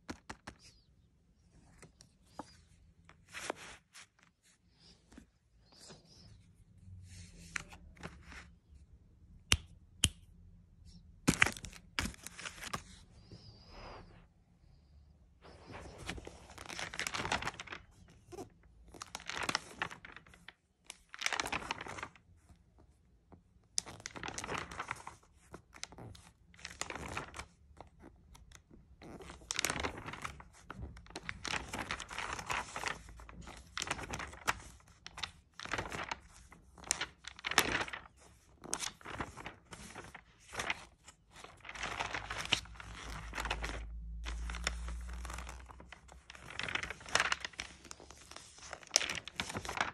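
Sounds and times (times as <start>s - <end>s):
paper pages rustling: 0.0s - 8.8s, 10.8s - 14.2s, 15.4s - 49.9s.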